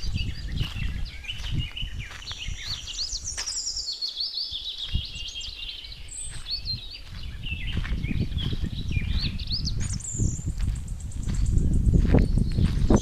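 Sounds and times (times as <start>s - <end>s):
small birds chirping and twittering: 0.0s - 13.0s.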